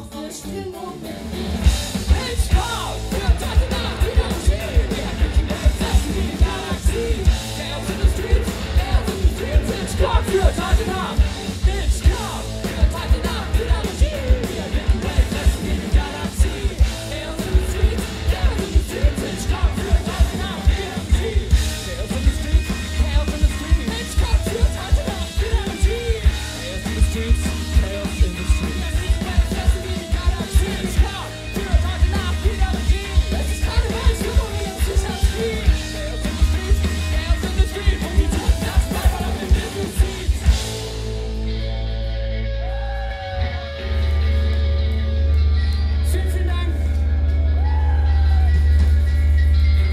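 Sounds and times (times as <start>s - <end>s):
person singing: 0.0s - 40.9s
bass guitar: 0.0s - 49.9s
electric guitar: 0.0s - 49.9s
drum kit beat: 1.2s - 41.6s.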